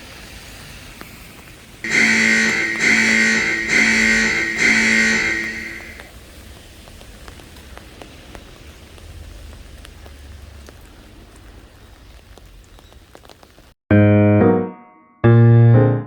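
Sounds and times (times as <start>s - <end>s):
steady hiss: 0.0s - 13.7s.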